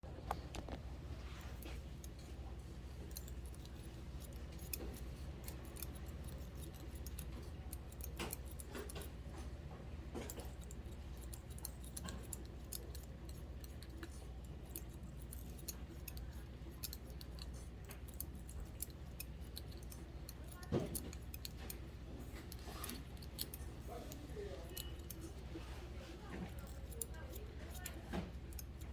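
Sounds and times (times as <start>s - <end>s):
low steady hum: 0.0s - 28.9s
scissors snipping hair: 0.6s - 28.9s.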